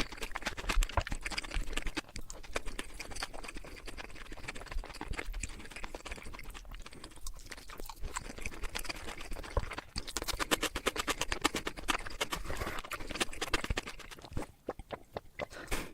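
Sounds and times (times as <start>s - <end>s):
crisp chewing crunches: 0.0s - 15.9s
wet mouth clicks: 0.0s - 15.9s.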